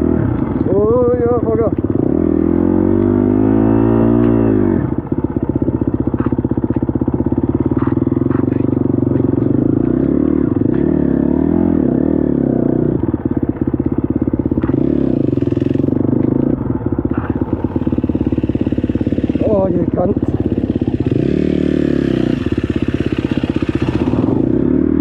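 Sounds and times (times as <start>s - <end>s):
dirt bike engine revving: 0.0s - 6.6s, 7.2s - 25.0s.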